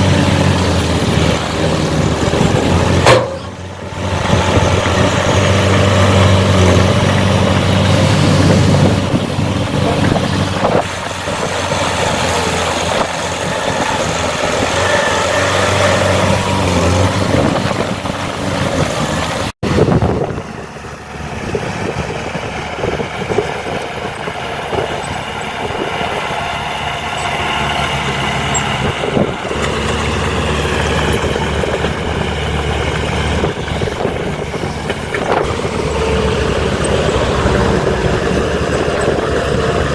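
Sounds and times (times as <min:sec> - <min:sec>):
diesel engines of heavy machines: 0:00.0 - 0:39.9.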